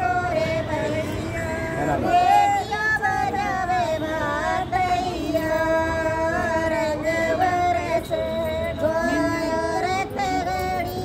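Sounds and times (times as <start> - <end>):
high female voice singing: 0.0 - 11.0.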